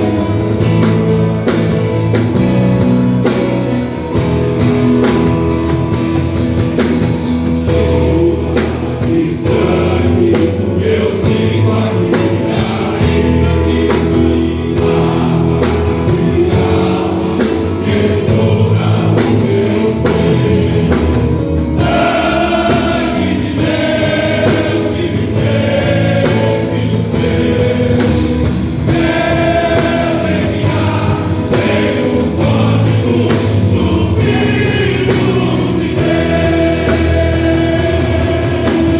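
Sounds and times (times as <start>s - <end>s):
gospel group singing with instruments: 0.0s - 38.9s.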